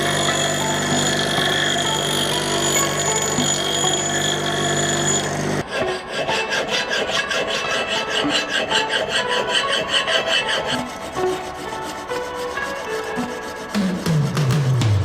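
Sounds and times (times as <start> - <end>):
abrasive rubbing on steel: 0.0 - 13.8.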